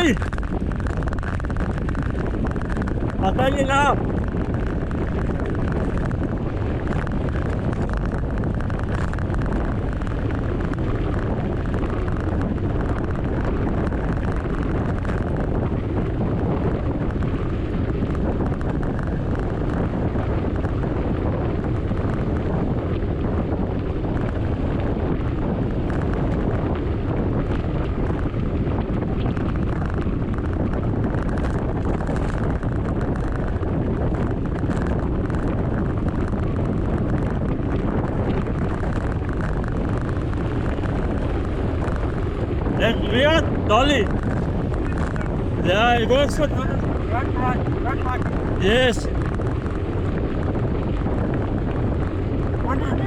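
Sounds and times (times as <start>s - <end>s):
wind buffeting microphone: 0.0s - 45.7s, 46.5s - 53.0s.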